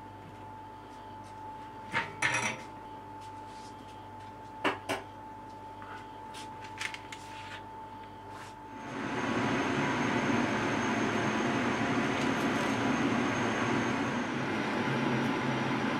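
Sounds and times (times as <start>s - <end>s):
faint steady whine: 0.0s - 15.9s.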